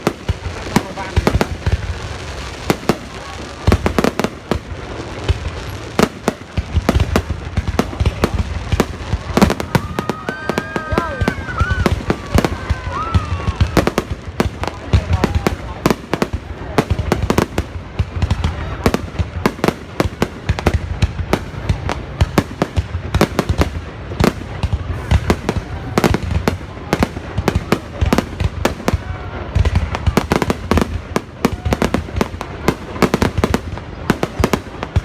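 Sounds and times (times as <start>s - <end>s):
fireworks bangs and cracks: 0.0s - 35.0s.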